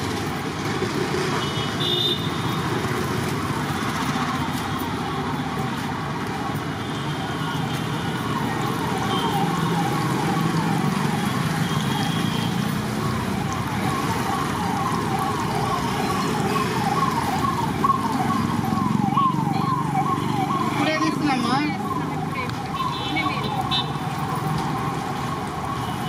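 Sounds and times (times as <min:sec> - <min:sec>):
siren wailing: 0:03.5 - 0:26.0.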